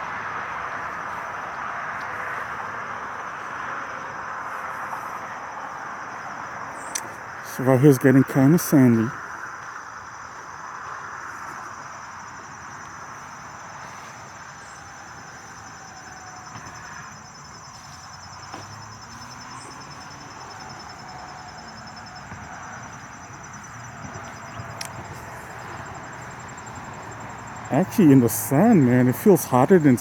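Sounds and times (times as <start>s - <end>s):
insects trilling: 0.0s - 30.0s
soft outdoor background hiss: 0.0s - 30.0s.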